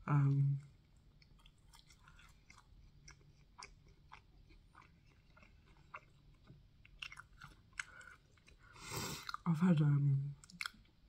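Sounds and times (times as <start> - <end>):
chewing soft food: 0.2 - 9.5, 10.2 - 11.0.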